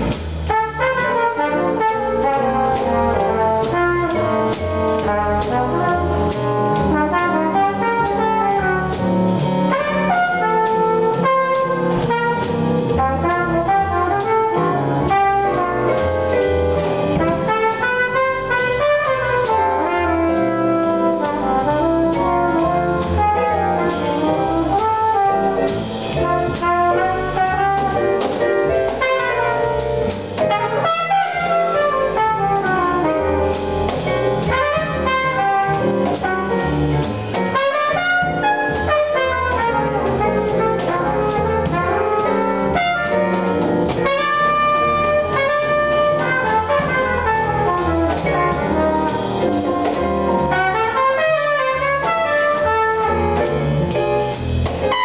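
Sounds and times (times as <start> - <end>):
drum kit with cymbals: 0.0 - 55.0
trumpet melody: 0.0 - 55.0
upright bass: 0.0 - 55.0.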